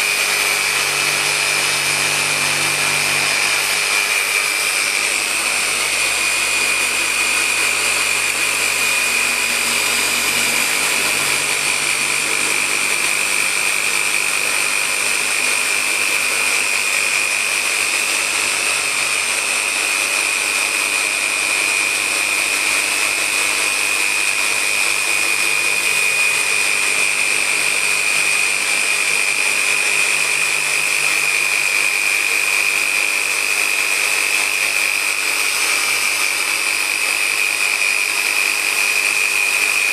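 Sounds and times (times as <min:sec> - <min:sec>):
polisher motor whining: 0:00.0 - 0:39.9.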